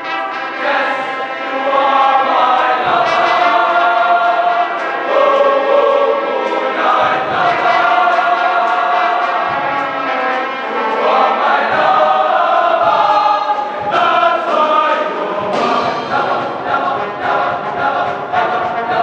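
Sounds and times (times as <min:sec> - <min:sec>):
boys' choir singing in harmony: 0:00.0 - 0:19.0
rhythmic sharp strikes: 0:00.0 - 0:19.0.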